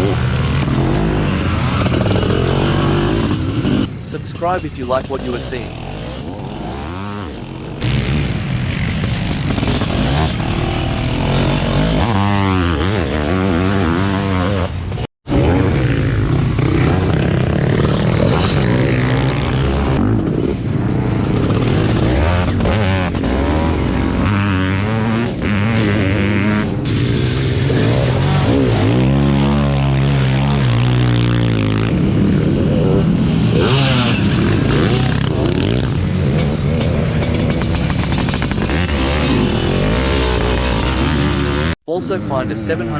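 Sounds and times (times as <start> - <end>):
two-stroke engines revving hard: 0.0 - 41.8.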